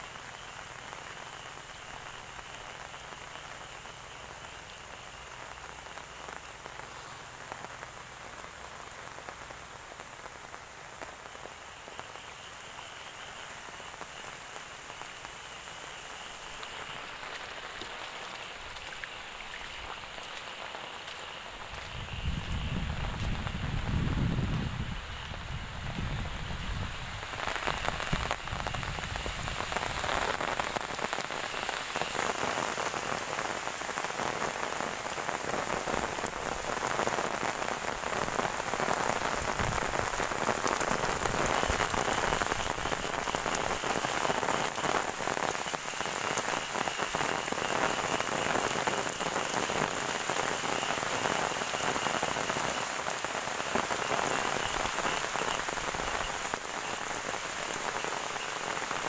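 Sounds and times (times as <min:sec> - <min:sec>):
heavy rain on grass and pavement: 0:00.0 - 0:59.0.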